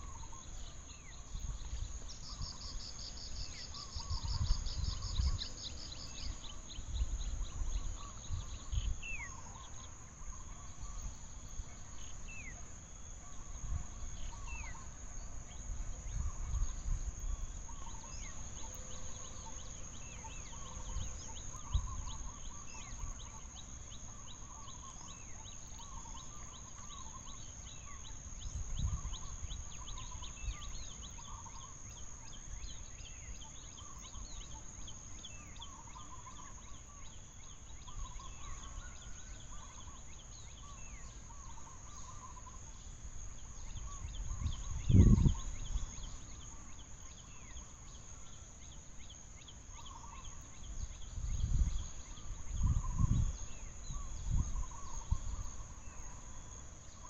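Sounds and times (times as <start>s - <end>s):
birds chirping and warbling: 0.0s - 57.0s.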